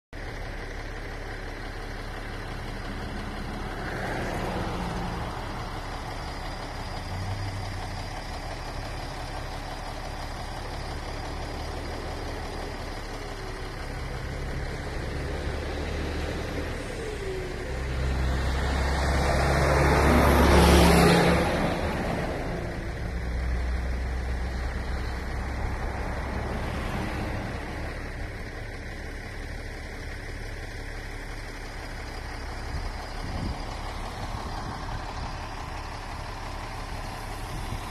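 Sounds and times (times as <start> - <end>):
low engine hum: 0.2 - 37.9
vehicles passing close by: 0.2 - 37.9.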